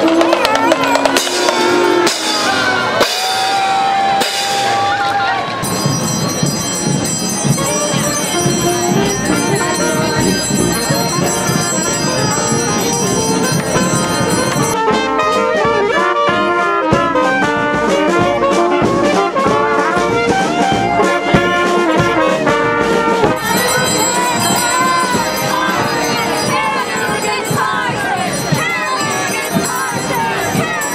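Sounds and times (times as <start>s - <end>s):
brass music with trombone and trumpet: 0.0s - 30.9s.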